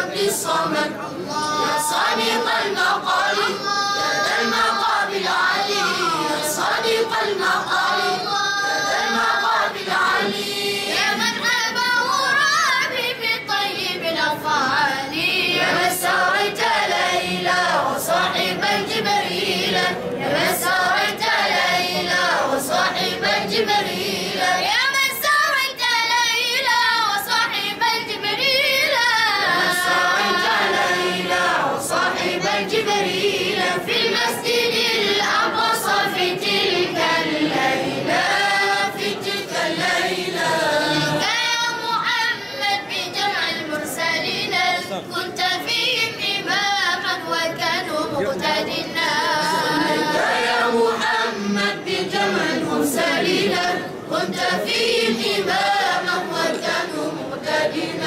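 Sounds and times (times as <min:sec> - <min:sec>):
boys singing devotional song: 0:00.0 - 0:58.0.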